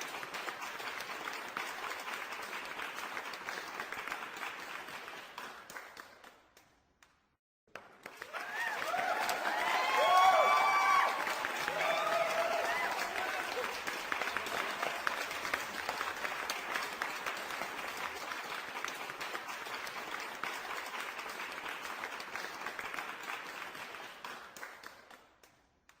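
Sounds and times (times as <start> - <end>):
audience applause: 0.0 - 6.1, 7.8 - 25.2.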